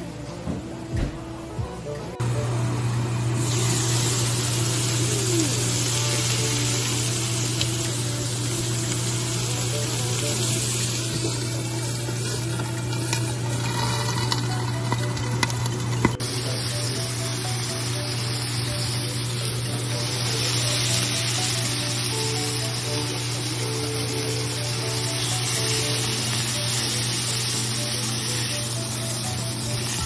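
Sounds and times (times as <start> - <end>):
low steady hum: 0.0 - 30.0
steak sizzling in a pan: 3.4 - 30.0.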